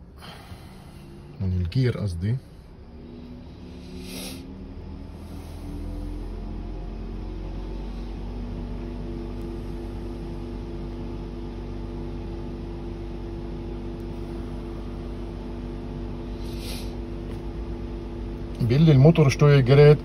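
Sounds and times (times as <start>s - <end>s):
electric cooling fan humming: 0.0s - 20.0s.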